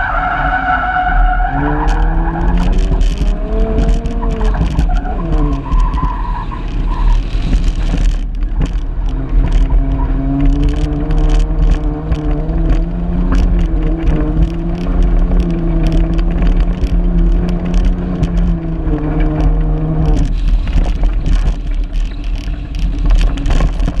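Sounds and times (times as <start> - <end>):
car engine running high: 0.0 - 24.0
gravel ticking against car: 0.0 - 24.0
tyre and wind rumble: 0.0 - 24.0.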